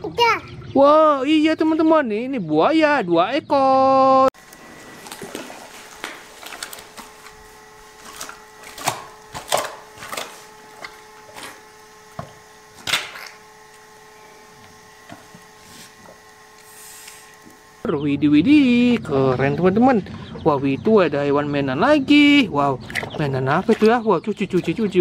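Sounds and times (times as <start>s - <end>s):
faint steady hum: 2.9s - 24.2s.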